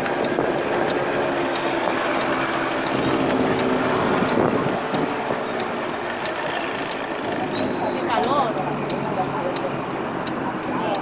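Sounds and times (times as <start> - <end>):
small engine running: 0.0 - 10.1
road noise: 0.0 - 11.0.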